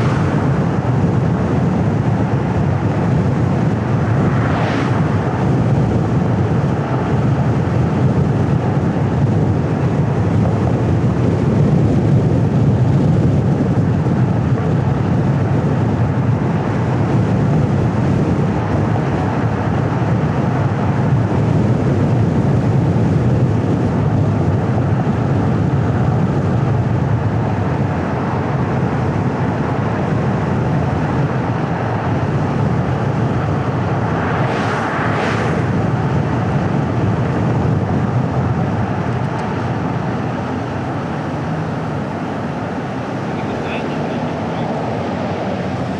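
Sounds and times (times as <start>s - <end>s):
car road and wind rumble: 0.0s - 45.9s.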